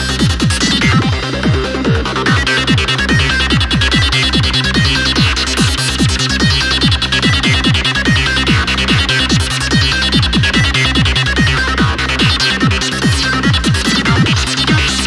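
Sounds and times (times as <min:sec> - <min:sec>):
fast synth lead: 0:00.0 - 0:15.0
rolling bass: 0:00.0 - 0:15.0
kick drum: 0:00.1 - 0:15.0.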